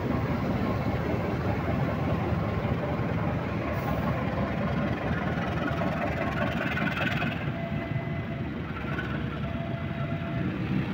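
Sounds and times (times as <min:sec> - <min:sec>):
diesel locomotive engine rumbling: 0:00.0 - 0:10.9.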